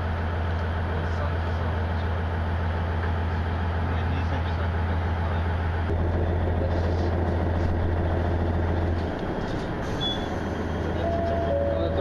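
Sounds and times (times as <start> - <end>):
railcar engine drone: 0.0 - 12.0.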